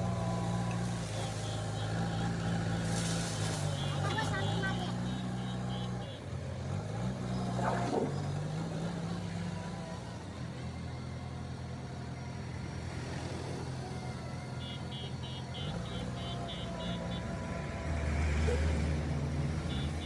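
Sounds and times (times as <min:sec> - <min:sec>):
diesel engine revving under load: 0:00.0 - 0:20.0.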